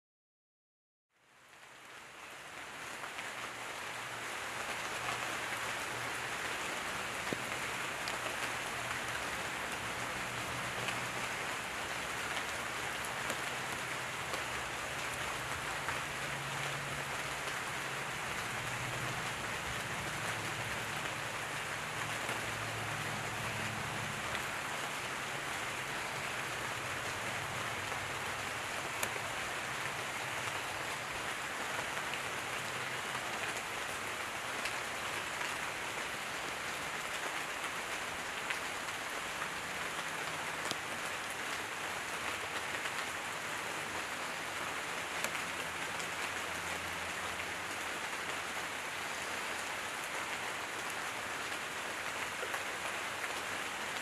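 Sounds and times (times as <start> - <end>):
gentle rain falling: 1.1 - 54.0.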